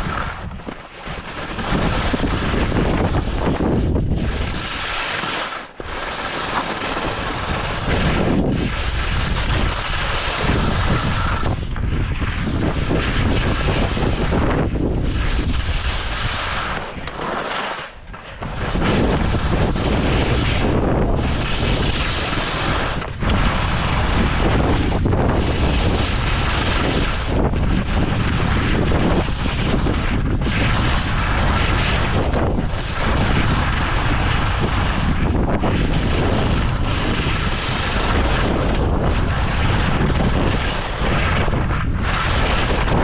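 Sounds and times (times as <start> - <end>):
wind buffeting microphone: 0.0 - 4.9, 6.7 - 17.1, 18.0 - 43.0.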